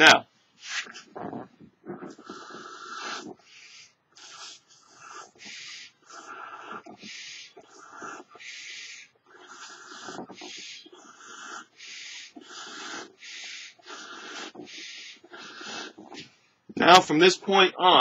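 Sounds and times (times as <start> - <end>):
air puffs blown into balloon: 0.6 - 16.4.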